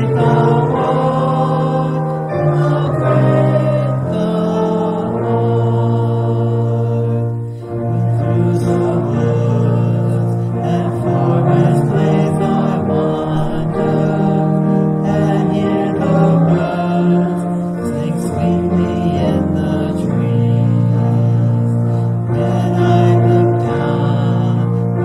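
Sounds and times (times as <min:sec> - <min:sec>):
congregation singing a hymn: 0:00.0 - 0:25.0
musical accompaniment: 0:00.0 - 0:25.0.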